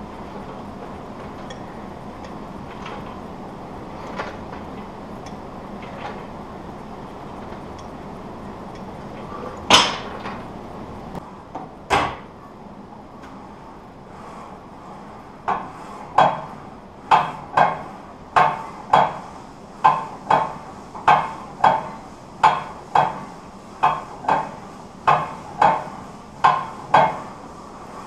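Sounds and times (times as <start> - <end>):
leg press machine clanking: 0.0 - 12.4, 13.3 - 28.0.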